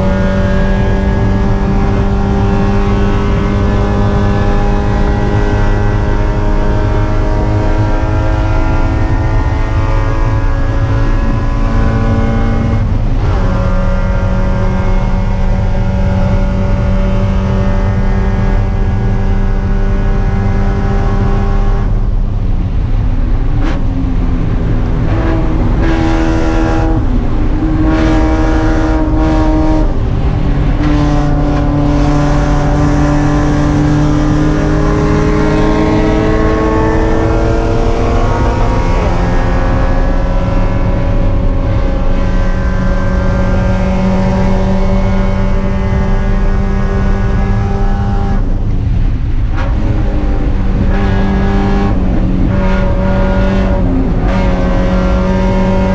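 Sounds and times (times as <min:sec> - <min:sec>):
car engine racing: 0:00.0 - 0:55.9.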